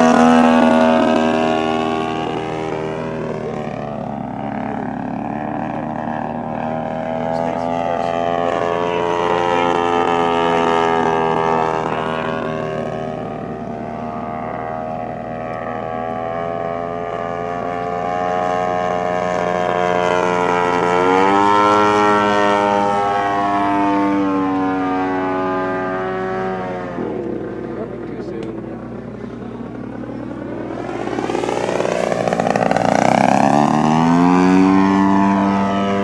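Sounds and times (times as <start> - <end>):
model airplane engine droning: 0.0 - 36.0.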